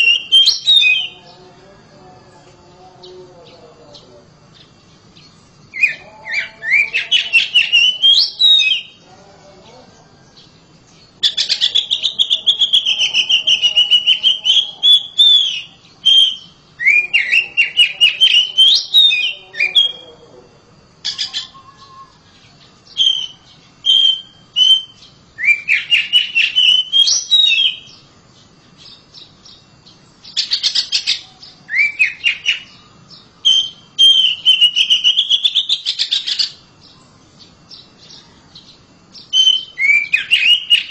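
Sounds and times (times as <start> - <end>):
bird singing whistles and trills: 0.0 - 1.3, 4.6 - 9.0, 11.1 - 20.0, 21.0 - 28.1, 28.8 - 37.1, 37.7 - 40.9.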